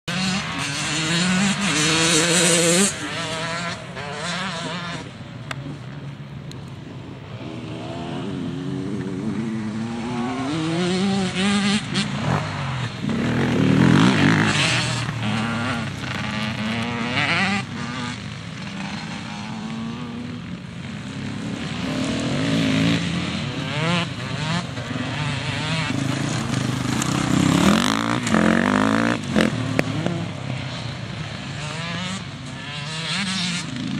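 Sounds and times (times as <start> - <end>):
motorcycles revving and changing gear: 0.0 - 33.9.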